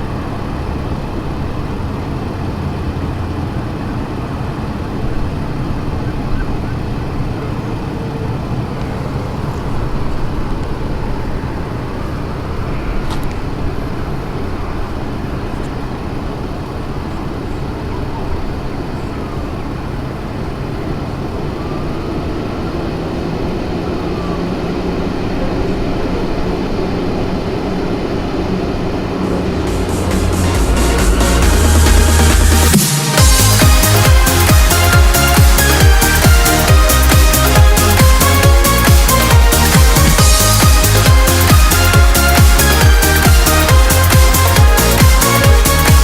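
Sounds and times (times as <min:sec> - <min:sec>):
passing vehicle rumble: 0:00.0 - 0:46.0.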